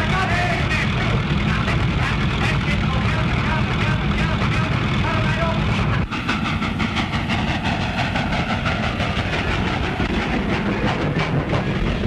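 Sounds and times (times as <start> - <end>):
constant low rumble: 0.0 - 12.0
mechanical clatter: 0.0 - 12.0.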